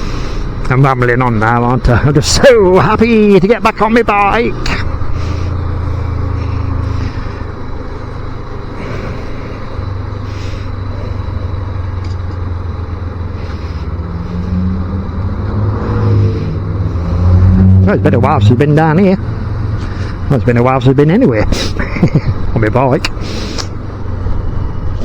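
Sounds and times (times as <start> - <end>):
higher engine note: 0.0 - 25.0
motorcycle engine running: 0.0 - 25.0
road noise: 0.0 - 25.0.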